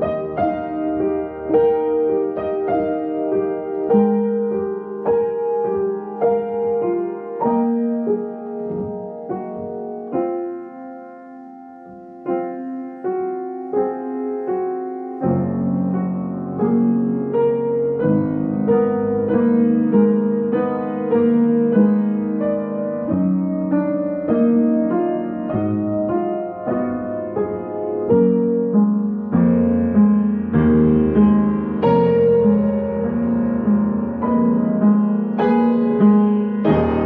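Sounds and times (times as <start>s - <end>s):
slow gentle piano piece: 0.0s - 37.0s.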